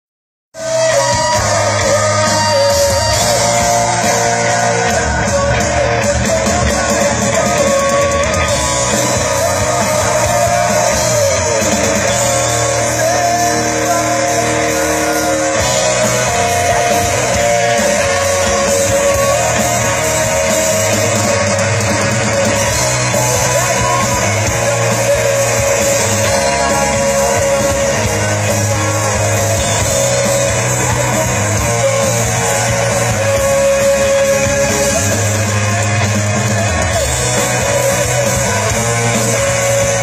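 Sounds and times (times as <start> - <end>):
electric guitar: 0.6 - 40.0
person singing: 0.6 - 40.0.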